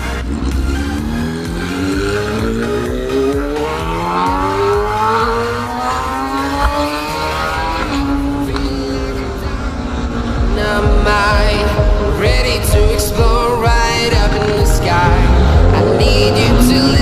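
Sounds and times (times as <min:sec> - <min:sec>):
motorcycle engine accelerating: 0:00.0 - 0:17.0
music: 0:00.0 - 0:17.0.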